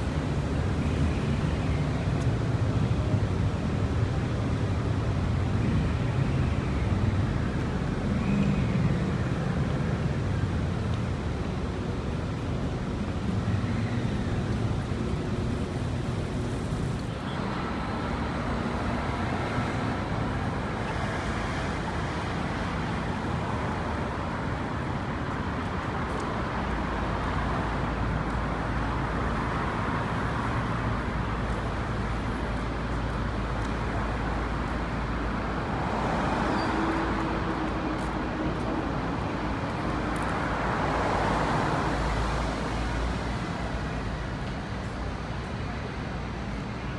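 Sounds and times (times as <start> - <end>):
traffic rumble of cars and buses: 0.0 - 46.9
vehicles passing close by: 0.0 - 46.9.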